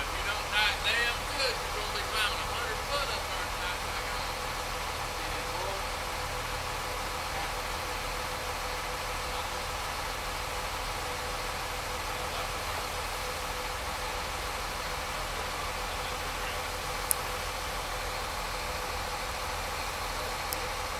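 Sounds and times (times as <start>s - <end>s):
engine idling: 0.0s - 20.9s.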